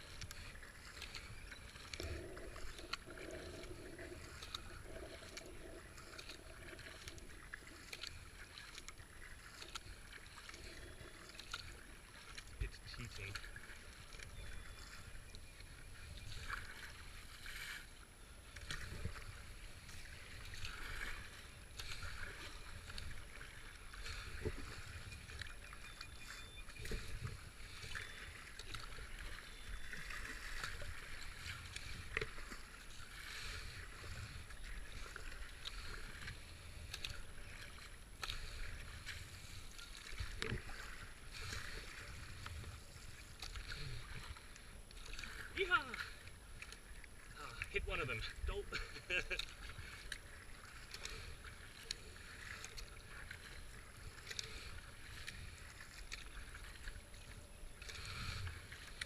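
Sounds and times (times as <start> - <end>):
kayak paddle strokes in water: 0.0 - 59.0
water washing along hull: 0.0 - 59.0.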